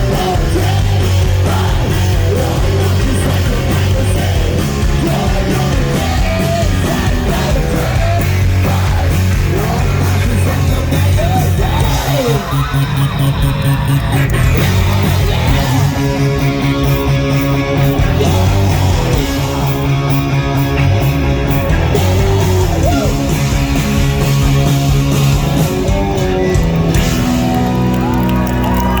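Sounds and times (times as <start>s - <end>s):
distorted electric guitars: 0.0s - 29.0s
live rock band playing: 0.0s - 29.0s.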